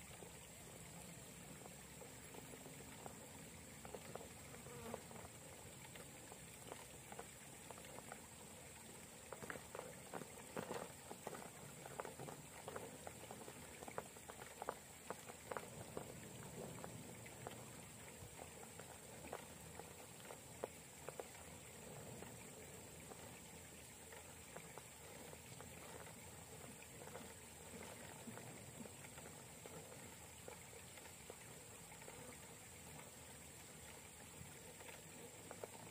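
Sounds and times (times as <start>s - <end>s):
faint high hiss: 0.0s - 35.9s.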